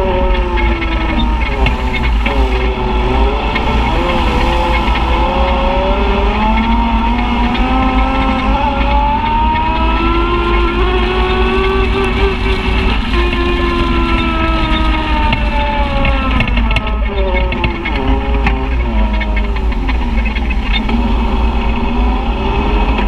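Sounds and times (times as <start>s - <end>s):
utility vehicle engine under load: 0.0s - 23.0s.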